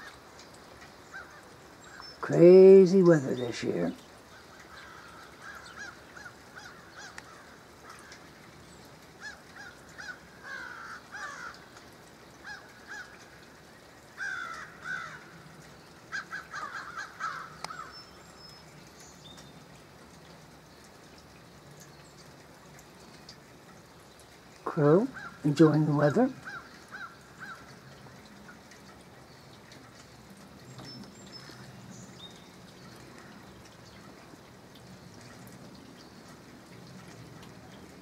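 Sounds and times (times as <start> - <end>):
faint steady hiss: 0.0 - 38.0.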